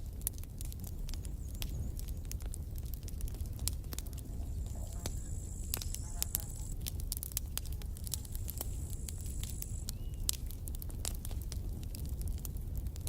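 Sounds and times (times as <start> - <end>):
campfire wood crackling: 0.0 - 13.0
low rumble of flames: 0.0 - 13.0.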